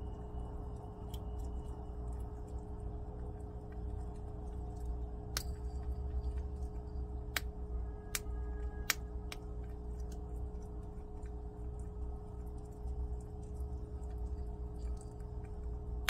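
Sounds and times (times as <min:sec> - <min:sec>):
low hum: 0:00.0 - 0:16.0
beans cracking and clicking: 0:00.3 - 0:16.0.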